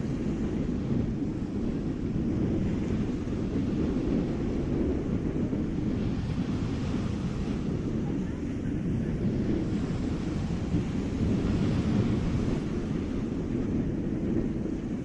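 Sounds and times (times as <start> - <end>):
small waves washing on shore: 0.0 - 15.0
wind buffeting microphone: 0.0 - 15.0.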